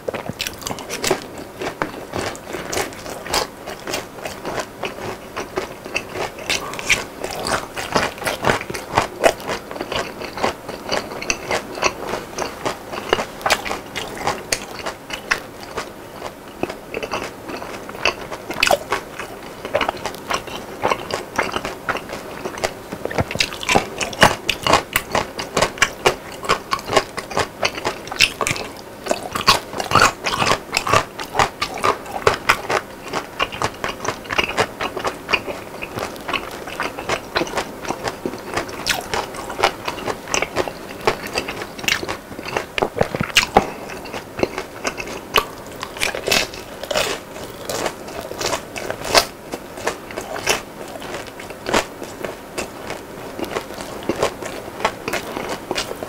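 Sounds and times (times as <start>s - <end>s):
chewing crispy fried food: 0.0s - 56.0s.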